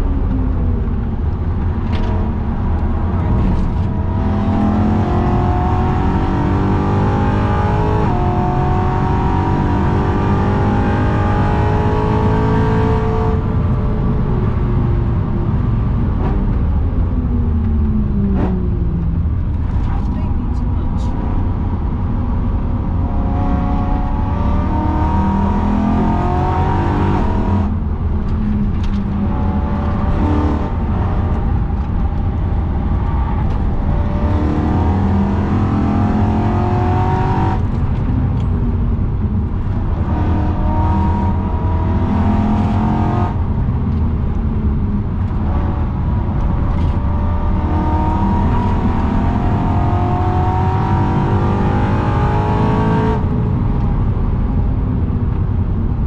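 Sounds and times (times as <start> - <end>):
car engine revving: 0.0 - 16.7, 17.9 - 54.7
road and wind noise: 0.0 - 56.0.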